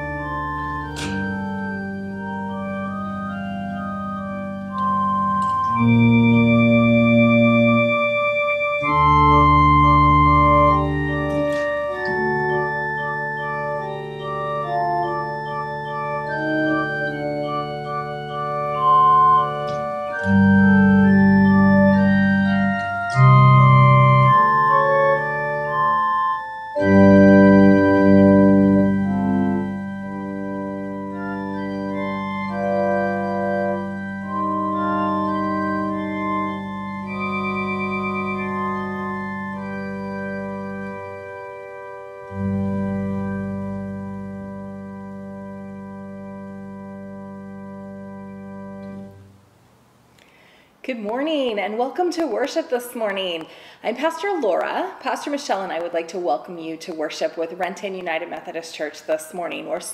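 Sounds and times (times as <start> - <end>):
organ playing slow chords: 0.0 - 50.8.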